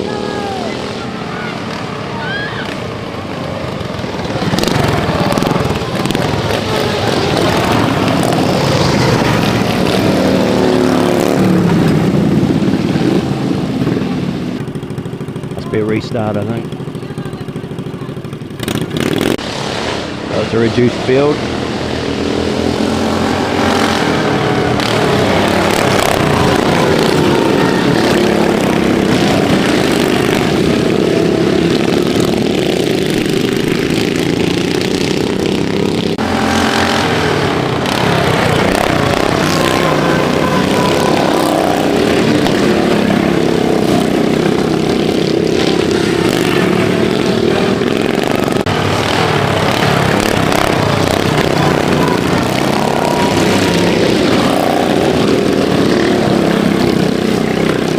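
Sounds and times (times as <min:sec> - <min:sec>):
racing lawnmower engines: 0:00.0 - 0:57.9.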